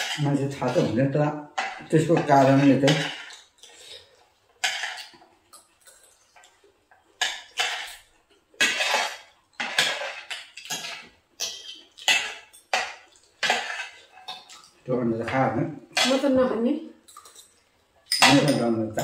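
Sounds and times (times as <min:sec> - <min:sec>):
cutlery scraping on plates: 0:00.0 - 0:01.0, 0:01.6 - 0:06.6, 0:07.2 - 0:16.4, 0:17.0 - 0:19.0.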